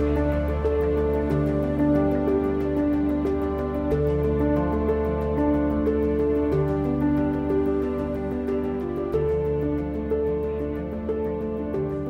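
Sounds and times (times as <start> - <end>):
held synth notes: 0.0 - 12.0.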